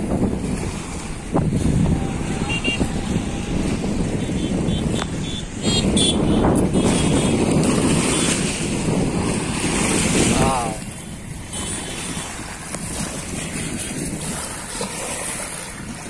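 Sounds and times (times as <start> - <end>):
waves lapping and splashing: 0.0 - 16.0
wind buffeting microphone: 0.0 - 16.0.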